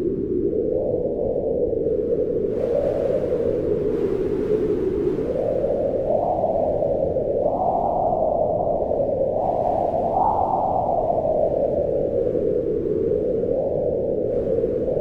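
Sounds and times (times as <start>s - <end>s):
wind blowing in gusts: 0.0s - 15.0s.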